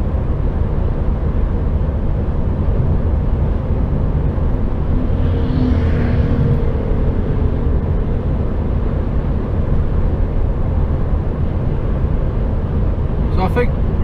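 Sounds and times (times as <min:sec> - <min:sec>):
lorry engine drone: 0:00.0 - 0:14.0
tyre and road noise: 0:01.0 - 0:14.0.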